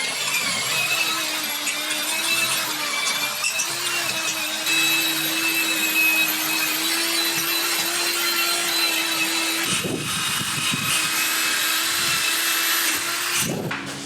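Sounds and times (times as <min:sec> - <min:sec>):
power tool grinding metal: 0:00.0 - 0:14.0.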